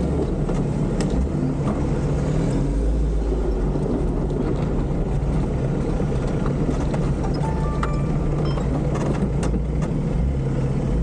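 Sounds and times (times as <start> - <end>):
engine and drivetrain rumble: 0.0 - 11.0.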